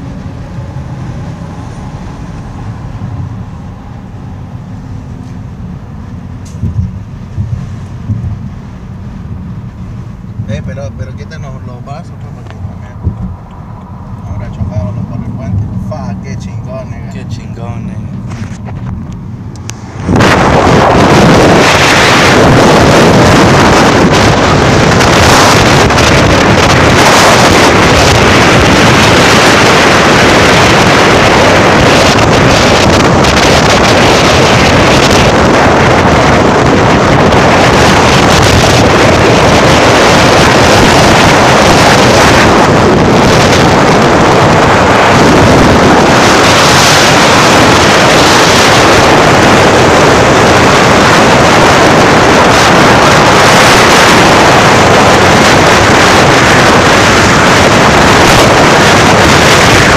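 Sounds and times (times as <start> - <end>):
road and traffic noise: 0.0 - 59.9
wind rushing over microphone: 0.0 - 59.9.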